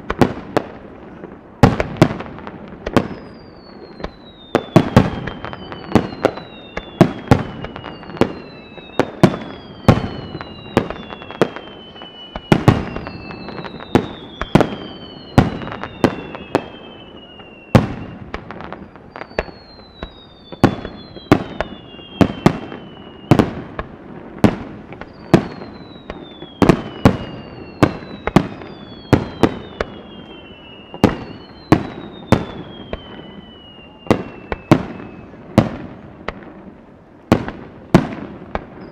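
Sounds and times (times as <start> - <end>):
whistling firework shells: 0.0 - 36.6, 37.3 - 38.9
fireworks banging: 0.0 - 38.9.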